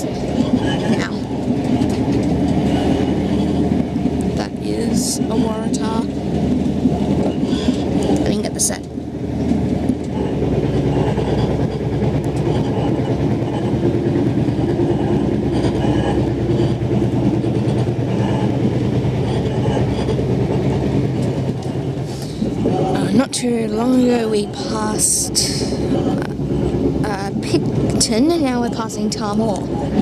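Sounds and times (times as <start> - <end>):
diesel railcar engine drone: 0.0 - 30.0
wheels rumbling on rails: 0.0 - 30.0.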